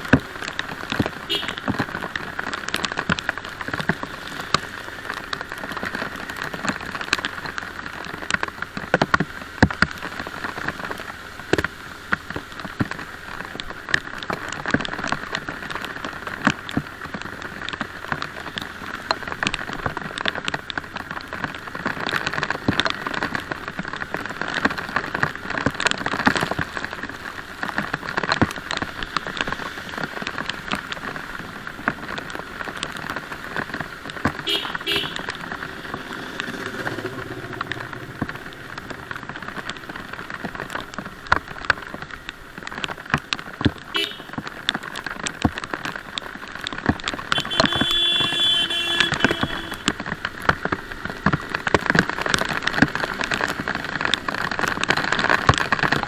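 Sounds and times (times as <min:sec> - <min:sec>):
rain falling: 0:00.0 - 0:56.0
raindrops ticking close by: 0:00.0 - 0:56.0.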